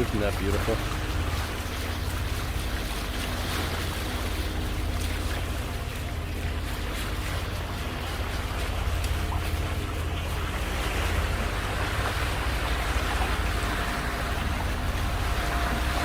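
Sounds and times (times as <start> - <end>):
low hum: 0.0 - 16.0
water rushing along a hull: 0.0 - 16.0.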